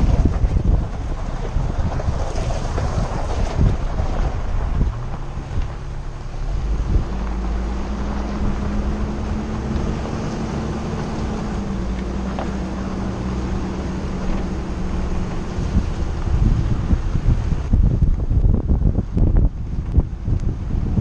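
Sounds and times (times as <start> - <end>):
vehicle engine running: 0.0 - 21.0
wind buffeting microphone: 0.0 - 21.0.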